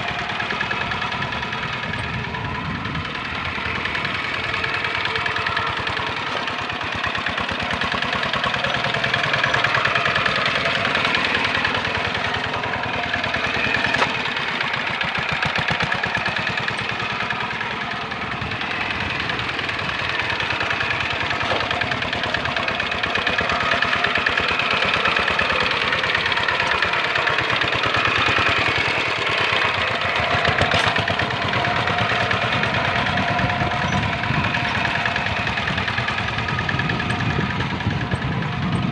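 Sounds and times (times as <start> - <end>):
diesel tractor engine under load: 0.0 - 38.9.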